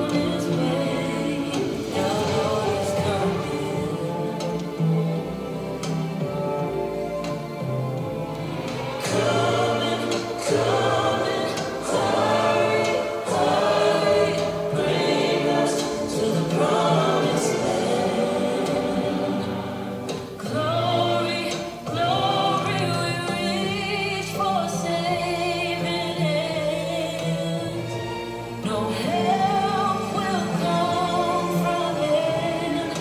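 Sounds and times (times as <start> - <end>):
choir singing long phrases: 0.0 - 26.2, 27.2 - 33.0
low musical accompaniment: 0.0 - 33.0.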